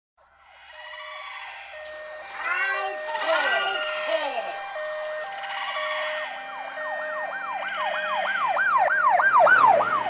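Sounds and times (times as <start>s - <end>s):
two-note hi-lo siren: 0.5s - 10.0s
whooping siren: 0.6s - 10.0s.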